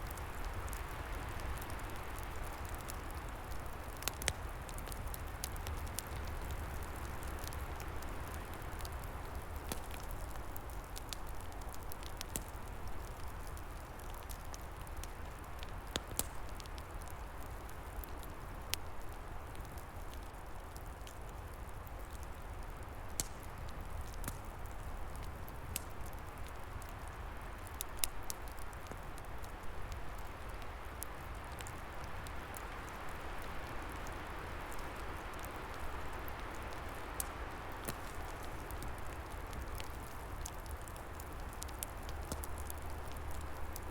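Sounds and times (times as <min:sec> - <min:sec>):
log fire crackling: 0:00.0 - 0:43.9
sharp pops from fire: 0:00.0 - 0:43.9.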